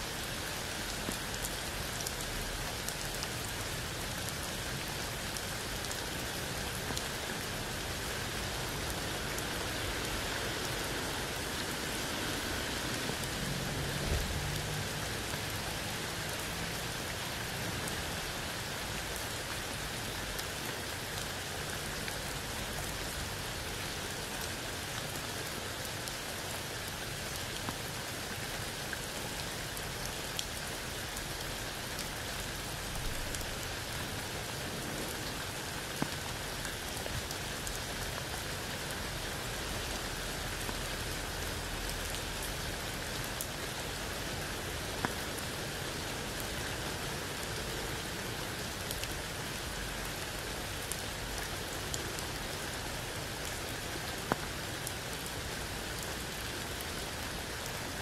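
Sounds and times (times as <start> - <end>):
rain falling on wet ground: 0.0 - 58.0.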